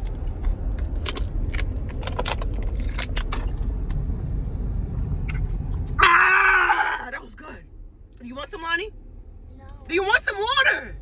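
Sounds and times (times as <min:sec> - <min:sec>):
road rumble inside a car: 0:00.0 - 0:11.0.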